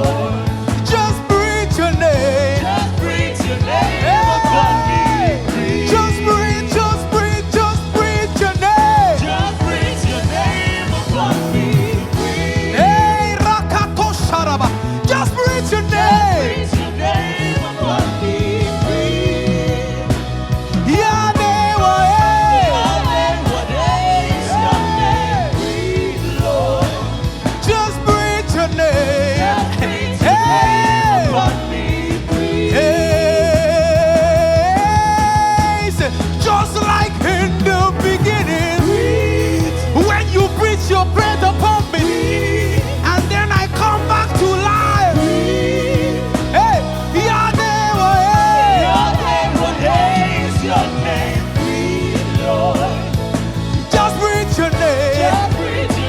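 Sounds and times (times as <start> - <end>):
band playing bass and beat: 0.0 - 56.0
lead voice singing: 0.0 - 56.0.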